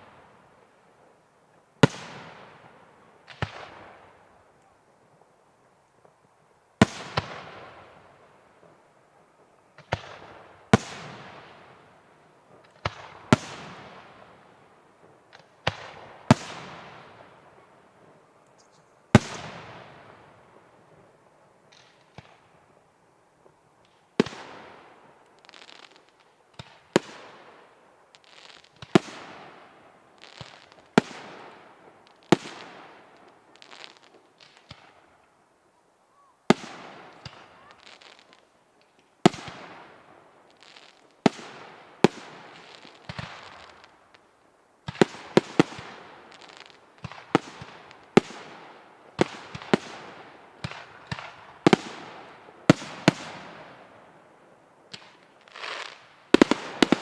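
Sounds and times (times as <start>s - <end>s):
fireworks bursting with sharp bangs: 0.0s - 5.3s, 6.0s - 22.8s, 23.4s - 35.4s, 36.2s - 57.0s
fireworks crackling: 0.0s - 35.4s, 36.4s - 57.0s.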